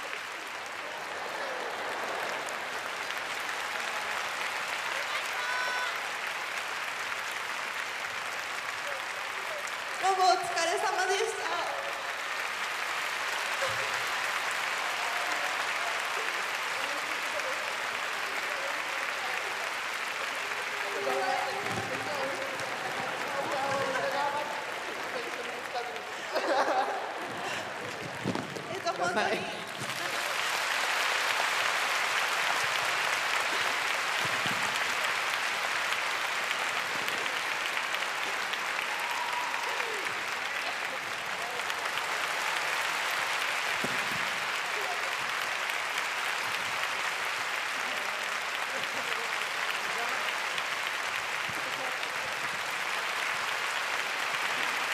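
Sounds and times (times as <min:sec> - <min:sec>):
audience applauding: 0:00.0 - 0:54.9.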